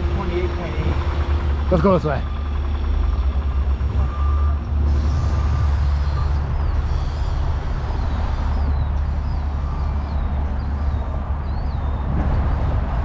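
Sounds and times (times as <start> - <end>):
wind buffeting microphone: 2.5 - 13.0.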